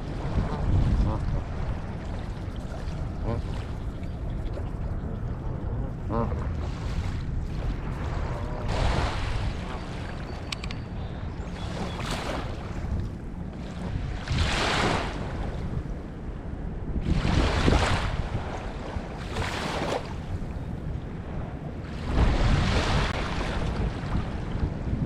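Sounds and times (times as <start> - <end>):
small waves washing in: 0.0 - 10.6, 11.4 - 15.9, 17.0 - 20.5, 21.2 - 25.0
wind rumble on microphone: 0.0 - 25.0.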